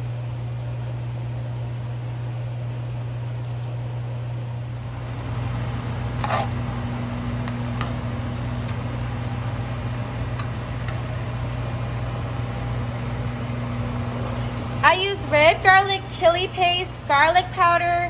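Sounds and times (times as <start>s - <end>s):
kitchen appliance fan humming: 0.0s - 18.0s.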